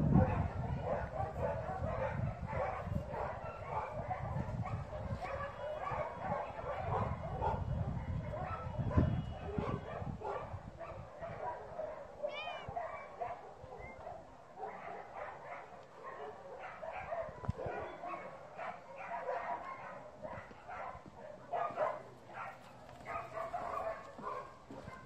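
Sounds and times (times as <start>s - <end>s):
dog barking: 0.0s - 25.0s.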